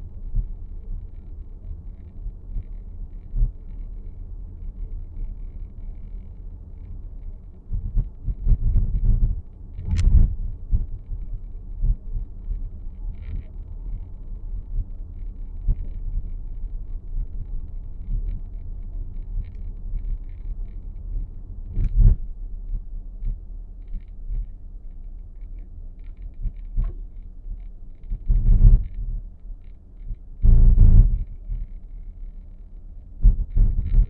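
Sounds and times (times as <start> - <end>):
road rumble inside car: 0.0 - 34.0.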